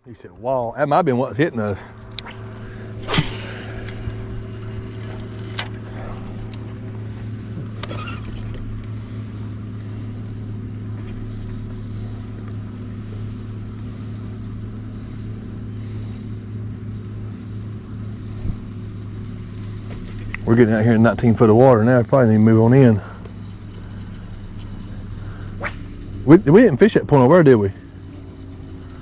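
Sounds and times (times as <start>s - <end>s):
boat motor humming: 0.0s - 29.0s.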